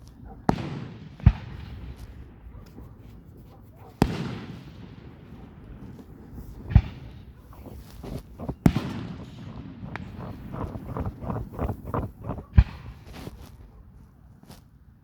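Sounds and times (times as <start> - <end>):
fireworks bangs: 0.0 - 13.8.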